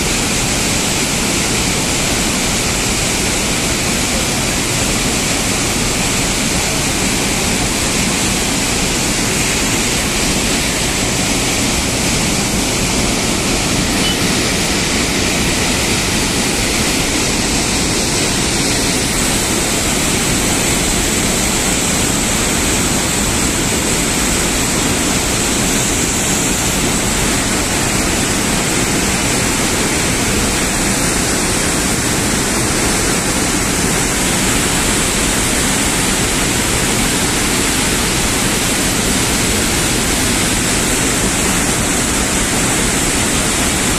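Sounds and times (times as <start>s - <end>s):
water rushing from spillway: 0.0s - 43.9s.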